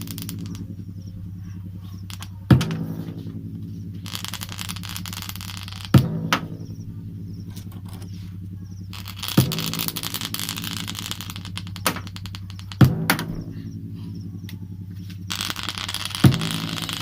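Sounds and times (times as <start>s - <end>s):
heavy beat: 0.0s - 7.5s, 8.2s - 17.0s
fast ticking texture: 0.0s - 17.0s
held low bass note: 0.0s - 17.0s.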